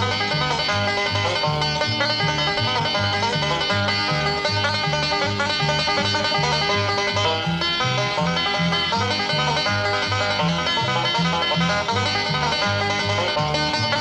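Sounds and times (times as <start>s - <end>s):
instrumental music with bass line: 0.0s - 14.0s.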